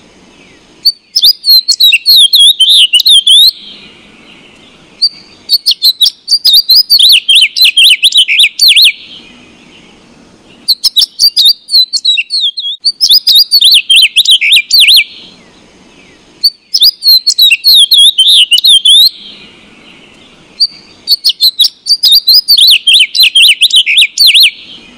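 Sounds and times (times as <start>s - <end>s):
faint low background rumble: 0.0s - 7.7s, 8.9s - 12.0s, 12.8s - 17.6s, 18.2s - 22.6s
sparrows chirping: 0.0s - 24.9s.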